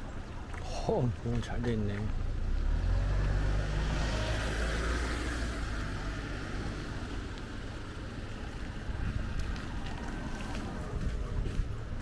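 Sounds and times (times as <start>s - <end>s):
outdoor background noise: 0.0s - 12.0s
vehicle engine rumble: 0.0s - 12.0s.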